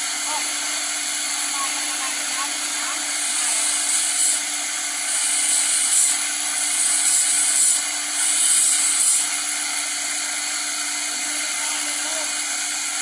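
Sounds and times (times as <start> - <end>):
grinding wheel motor hum: 0.0 - 13.0
grinding wheel sharpening blade: 0.0 - 13.0.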